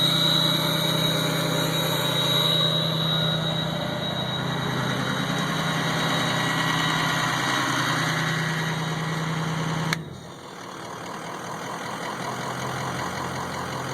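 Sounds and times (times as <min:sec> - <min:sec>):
diesel engine running: 0:00.0 - 0:13.9
high turbo whistle: 0:00.0 - 0:13.9.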